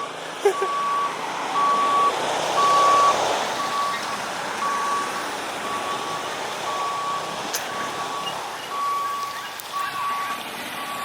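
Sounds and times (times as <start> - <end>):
engine and traffic noise: 0.0 - 11.0
reversing alarm beeping: 0.0 - 11.0.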